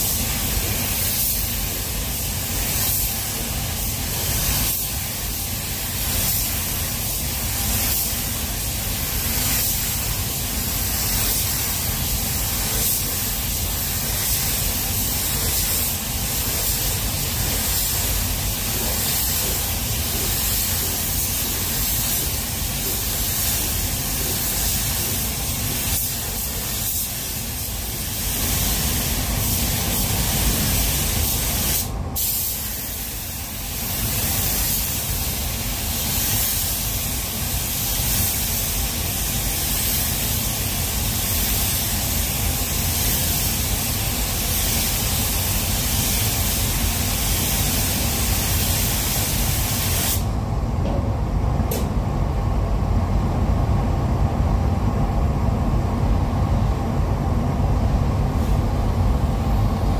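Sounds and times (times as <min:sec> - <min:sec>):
spray gun hissing: 0:00.0 - 0:50.3.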